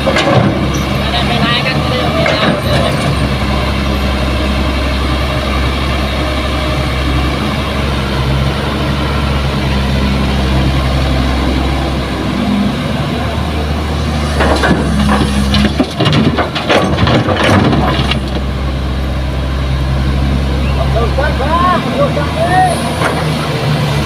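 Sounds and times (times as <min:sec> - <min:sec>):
dump truck idling: 0:00.0 - 0:24.0
hydraulic excavator running: 0:00.0 - 0:24.0.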